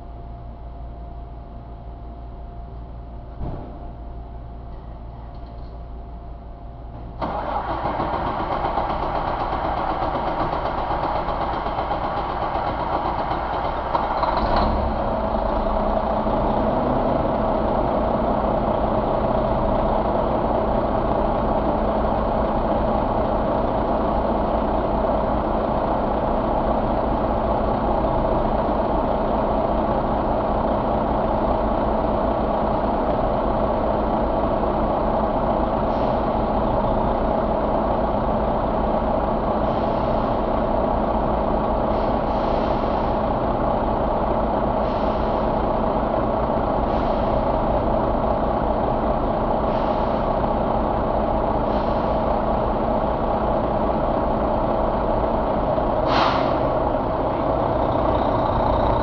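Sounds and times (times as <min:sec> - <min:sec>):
diesel engine starting and idling: 0:03.2 - 0:59.0.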